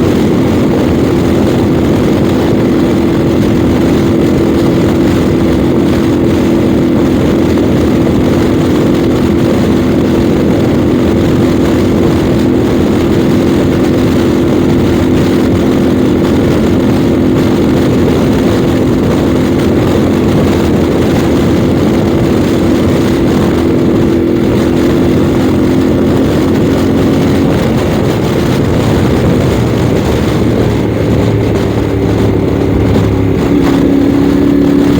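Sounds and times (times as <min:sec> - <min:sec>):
heavy wind noise: 0:00.0 - 0:34.9
motorcycle engine cruising: 0:00.0 - 0:34.9.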